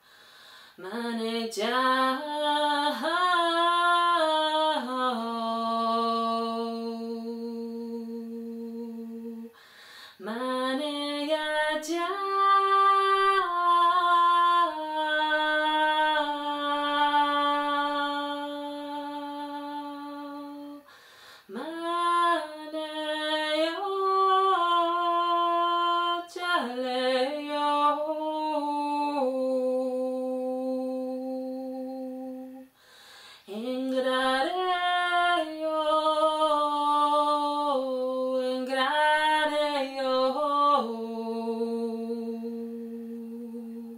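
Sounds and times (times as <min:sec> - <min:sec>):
woman singing unaccompanied: 0:00.8 - 0:32.8, 0:33.4 - 0:43.9.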